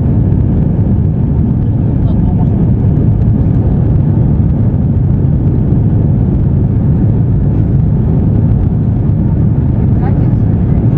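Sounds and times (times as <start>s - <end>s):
jet engines rumbling: 0.0s - 10.9s
rushing air: 0.0s - 10.9s.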